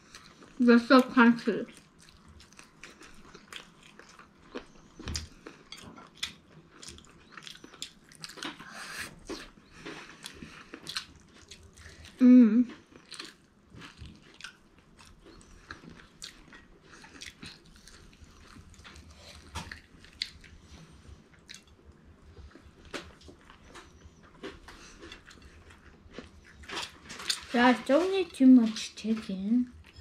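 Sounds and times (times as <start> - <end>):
chewing crunchy fried chicken: 0.0 - 30.0.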